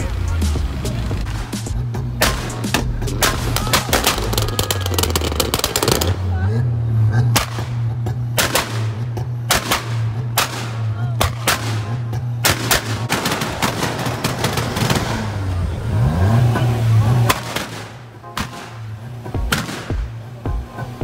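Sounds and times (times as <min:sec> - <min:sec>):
car engine at high revs: 0:00.0 - 0:21.0
exhaust bangs and pops: 0:00.0 - 0:21.0.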